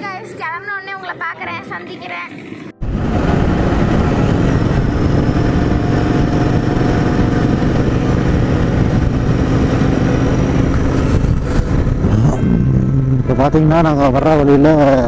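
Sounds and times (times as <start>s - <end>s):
road and wind noise: 0.0s - 15.0s
motorcycle engine running: 2.8s - 15.0s.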